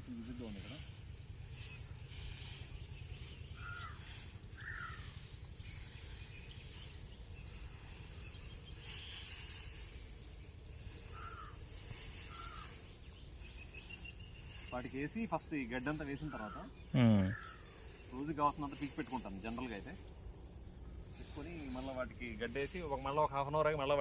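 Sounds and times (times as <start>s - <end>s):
bird chirping: 0.0s - 23.4s
low rumble and hiss: 0.0s - 24.0s.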